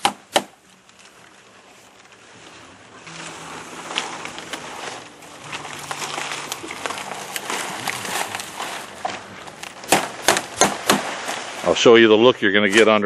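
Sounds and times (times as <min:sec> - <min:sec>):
palm leaves rustling and crackling: 0:00.0 - 0:13.0.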